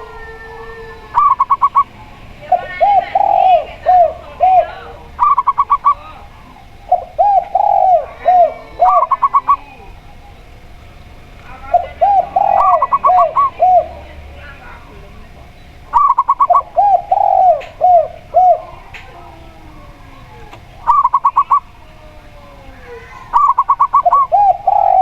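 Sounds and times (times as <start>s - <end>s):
doves cooing: 0.0s - 25.0s.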